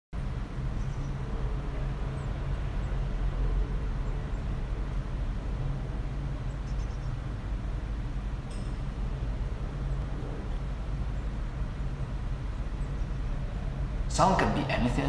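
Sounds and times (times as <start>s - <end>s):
urban traffic rumble: 0.2s - 15.0s.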